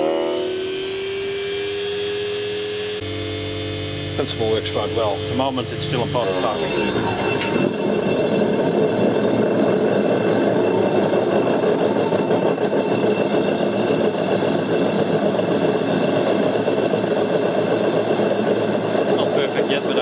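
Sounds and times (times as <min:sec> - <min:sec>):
electric motor running: 0:00.8 - 0:20.0.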